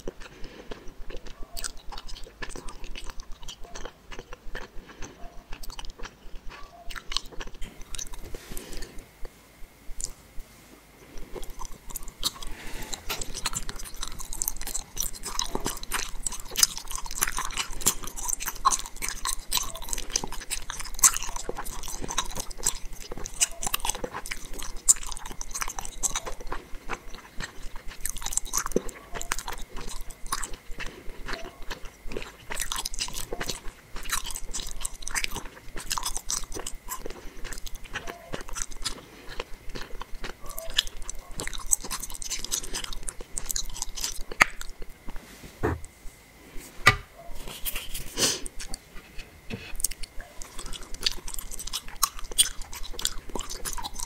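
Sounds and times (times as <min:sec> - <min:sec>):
person chewing gummy candies: 0:00.0 - 0:10.2, 0:11.0 - 0:45.2, 0:47.4 - 0:48.9, 0:49.7 - 0:54.0.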